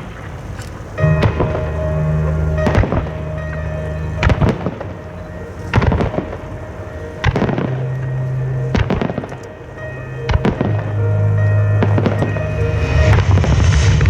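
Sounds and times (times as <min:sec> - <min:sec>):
music playing: 0:00.8 - 0:14.0.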